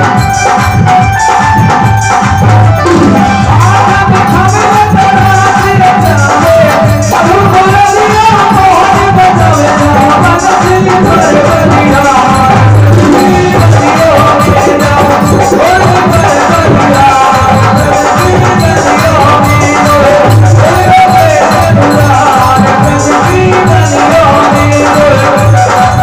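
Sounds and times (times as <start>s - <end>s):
dholak drum beat: 0.0s - 26.0s
harmonium and keyboard melody: 0.0s - 26.0s.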